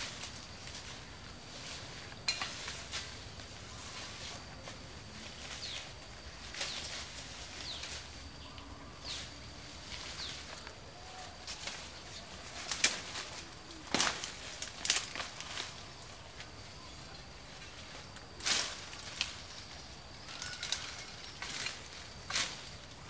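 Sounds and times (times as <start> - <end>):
leaves and brush rustling: 0.0 - 23.0
twigs crackling: 0.0 - 23.0.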